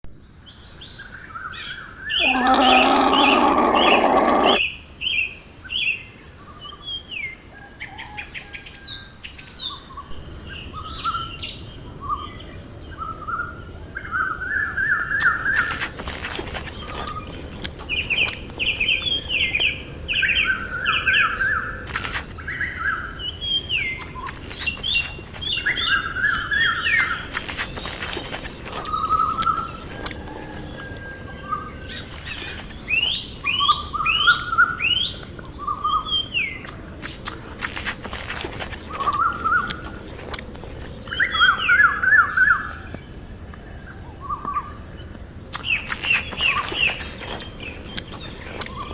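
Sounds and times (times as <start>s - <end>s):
small birds chirping: 0.3s - 7.0s, 9.4s - 48.9s.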